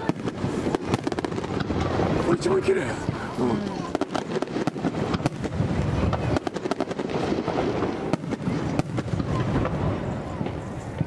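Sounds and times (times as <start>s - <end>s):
firework shells crackling: 0.0s - 11.0s.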